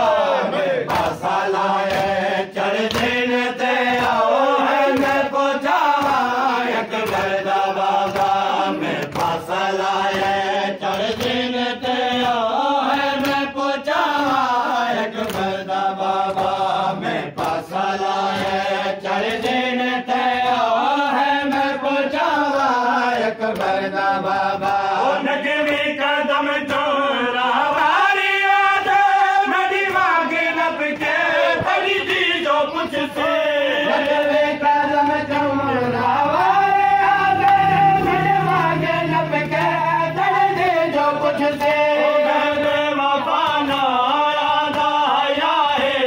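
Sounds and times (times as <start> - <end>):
men chanting a lament: 0.0 - 46.0
sharp rhythmic strikes: 0.0 - 46.0.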